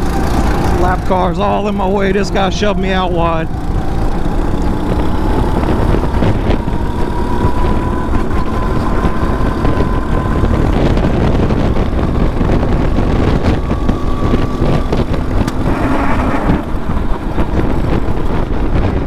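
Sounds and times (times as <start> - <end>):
go-kart engine running hard: 0.0 - 19.0.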